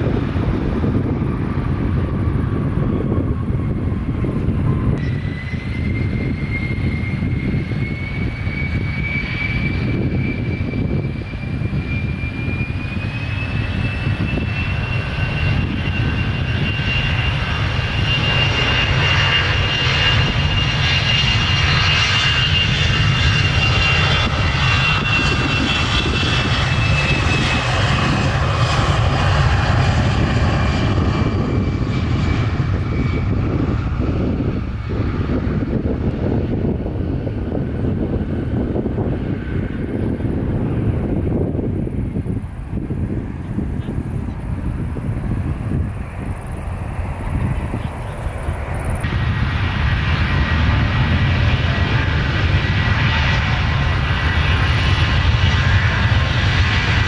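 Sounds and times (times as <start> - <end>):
airliner engines running: 0.0 - 57.0.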